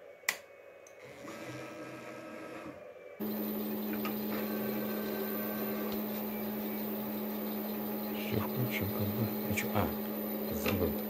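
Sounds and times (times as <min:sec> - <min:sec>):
electrical hum with high whine: 0:00.0 - 0:11.0.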